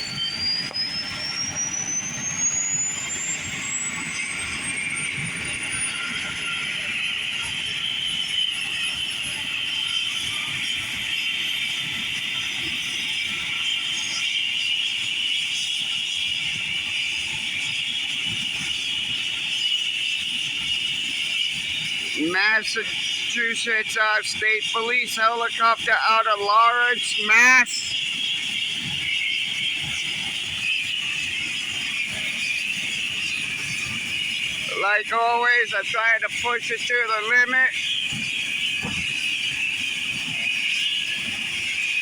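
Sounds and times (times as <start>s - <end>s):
helicopter turbine whining: 0.0s - 42.0s.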